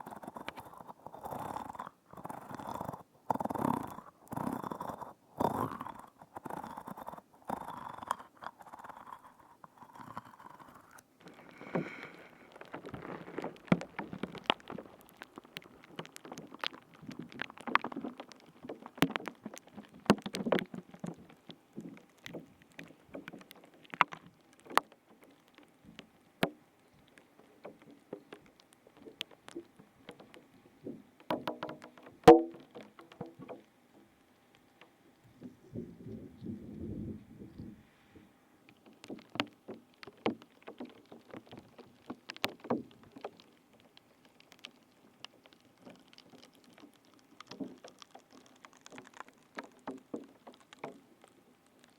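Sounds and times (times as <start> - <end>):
squishing: 0.0 - 36.0, 38.7 - 51.9
crackling clicks and pops: 0.0 - 51.9.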